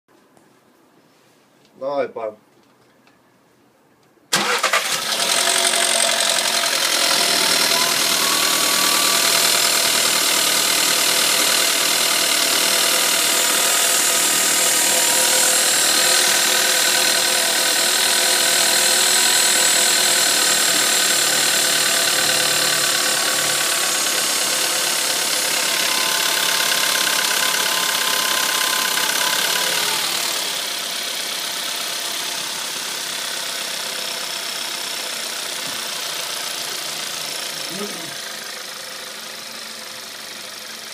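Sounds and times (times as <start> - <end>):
car engine idling with knocking: 5.1 - 40.9.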